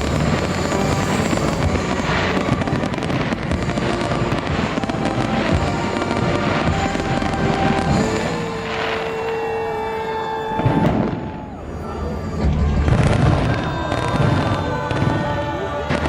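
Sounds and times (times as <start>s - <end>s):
fireworks bursting and crackling: 0.0s - 16.0s
music playing: 0.0s - 16.0s.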